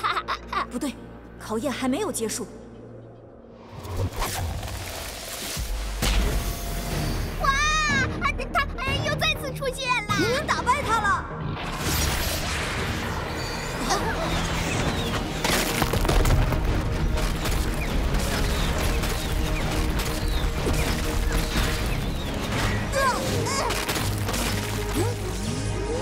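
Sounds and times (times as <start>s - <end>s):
background music: 0.0s - 26.0s.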